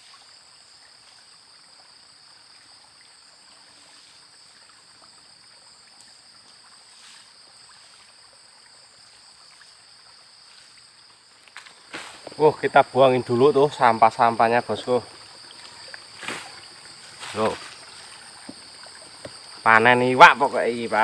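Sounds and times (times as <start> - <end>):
insects droning: 0.0 - 21.0
water trickling: 0.0 - 21.0.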